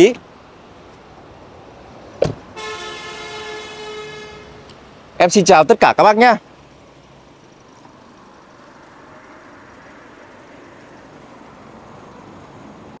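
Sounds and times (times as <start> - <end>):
motor traffic hum: 0.0 - 13.0.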